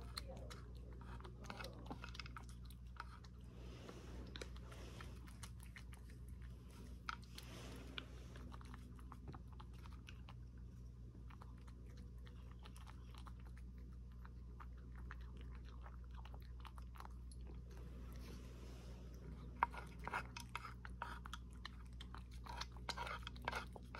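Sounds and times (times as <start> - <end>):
cat chewing and licking: 0.0 - 23.9
faint low hum: 0.0 - 23.9.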